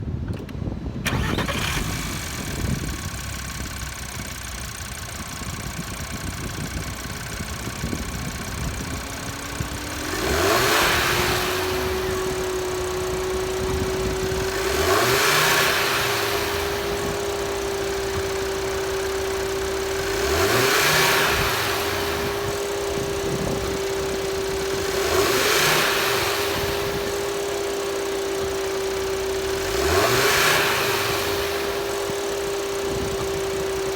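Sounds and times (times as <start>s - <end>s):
car engine starting and idling: 0.1s - 33.9s
engine revving: 1.1s - 33.9s.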